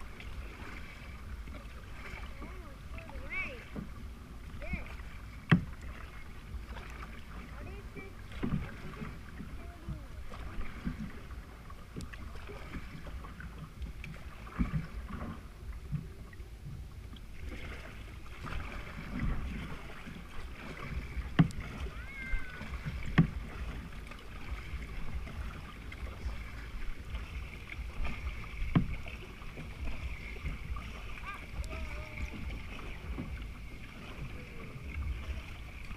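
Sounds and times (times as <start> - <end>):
water rumbling around kayak hull: 0.0 - 35.9
wind: 0.0 - 35.9.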